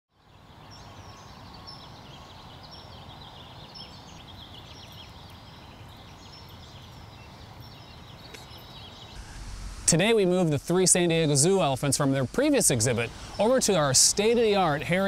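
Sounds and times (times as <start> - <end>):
small birds chirping: 0.1 - 15.0
steady low background noise: 0.2 - 15.0.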